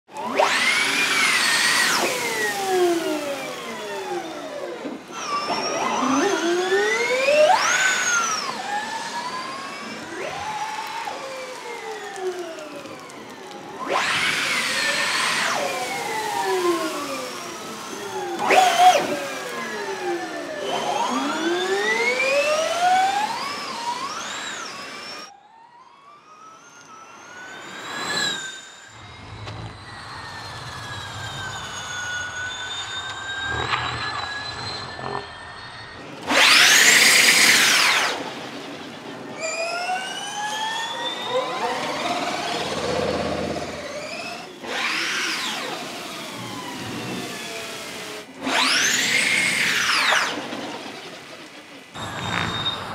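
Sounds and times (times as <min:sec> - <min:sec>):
electric race car whining: 0:00.1 - 0:52.9.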